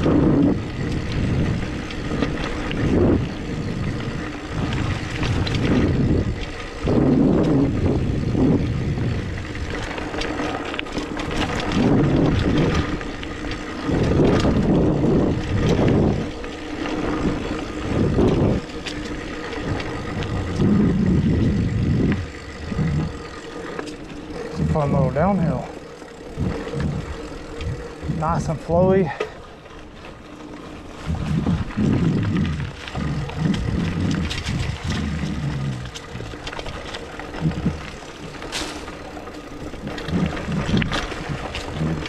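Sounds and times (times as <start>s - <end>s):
wind on microphone: 0.0s - 29.1s, 30.9s - 42.0s
bike clicking and rattling: 0.0s - 42.0s.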